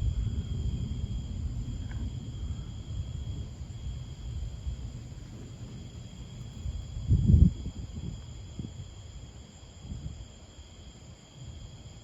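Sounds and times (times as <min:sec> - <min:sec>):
low storm rumble: 0:00.0 - 0:10.4
insect chorus: 0:00.0 - 0:12.0.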